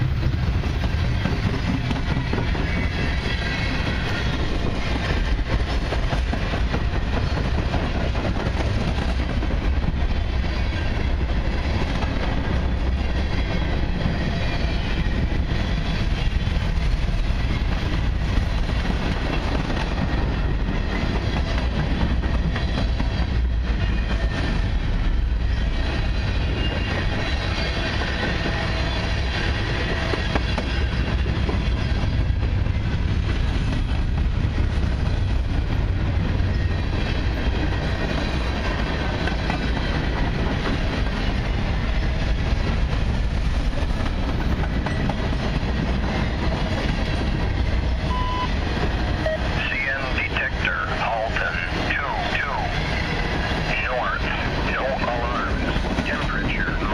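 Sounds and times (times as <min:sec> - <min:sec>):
freight train rolling on rails: 0:00.0 - 0:56.9.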